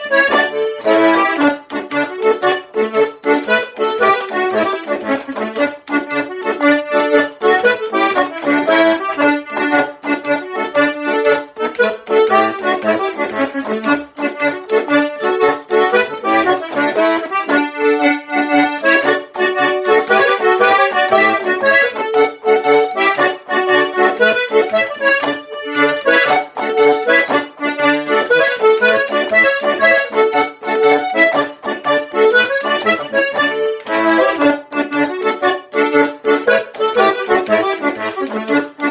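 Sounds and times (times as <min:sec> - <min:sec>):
lively folk dance tune: 0:00.0 - 0:38.9.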